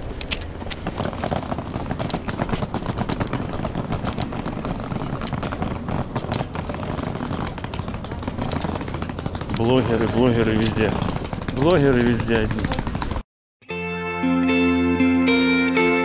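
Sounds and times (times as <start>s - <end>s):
suitcase wheels rolling on paving: 0.0s - 13.2s.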